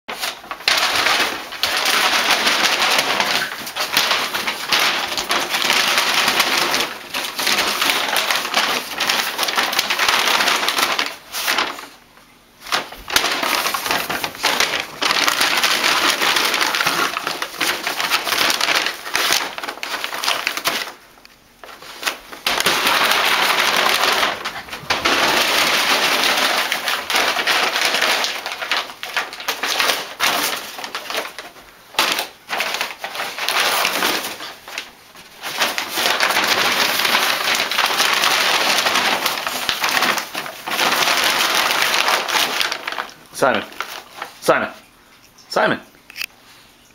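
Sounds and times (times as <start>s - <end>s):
paper bags crinkling and tearing: 0.1s - 12.0s, 12.6s - 44.9s.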